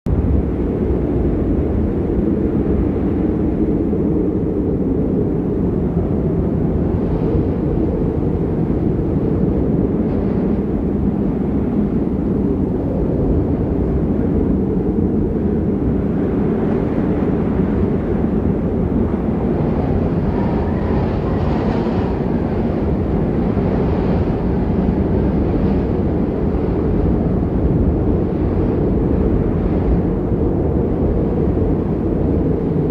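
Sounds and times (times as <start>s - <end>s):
snowstorm wind blowing hard: 0.1s - 32.9s.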